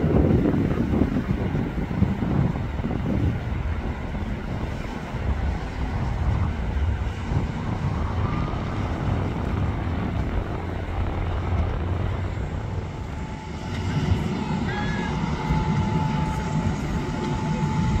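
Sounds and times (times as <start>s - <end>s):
train rumbling: 0.0s - 18.0s
wind buffeting microphone: 0.0s - 18.0s.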